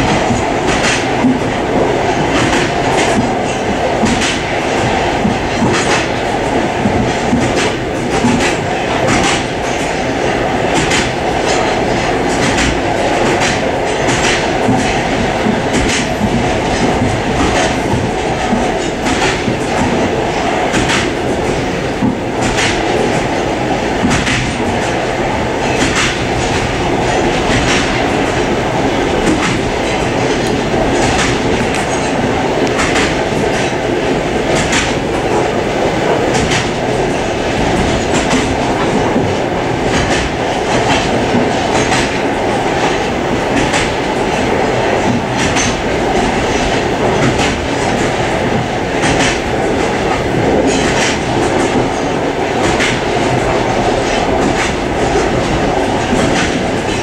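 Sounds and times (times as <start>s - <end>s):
train wheels rumbling on track: 0.0s - 57.0s
wheels clacking over rail joints: 0.0s - 57.0s.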